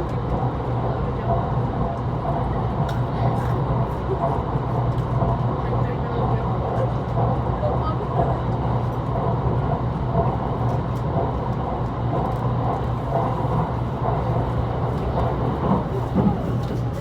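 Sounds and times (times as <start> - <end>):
low hum inside train: 0.0 - 17.0
wheels rumbling on track: 0.1 - 17.0.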